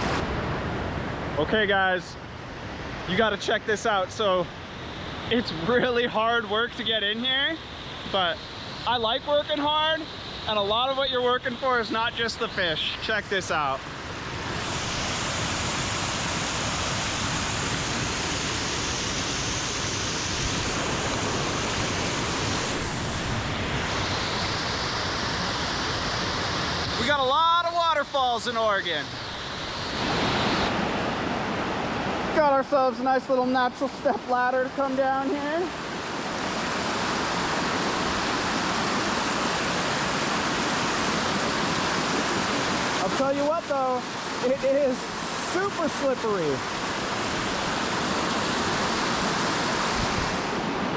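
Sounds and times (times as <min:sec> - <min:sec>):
waterfall rushing: 0:02.6 - 0:50.9.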